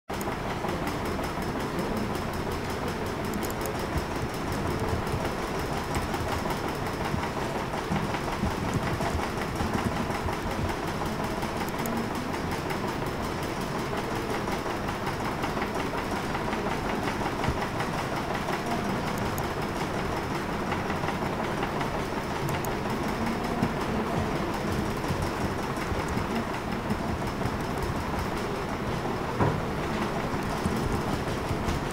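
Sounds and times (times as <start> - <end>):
steady rumbling noise: 0.2 - 31.9.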